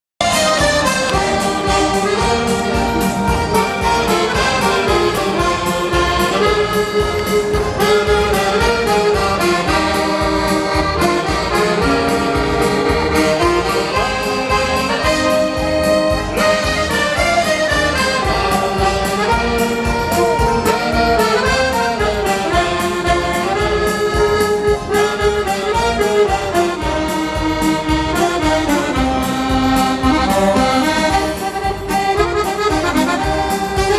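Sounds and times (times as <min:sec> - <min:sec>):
dance band music: 0:00.2 - 0:33.9.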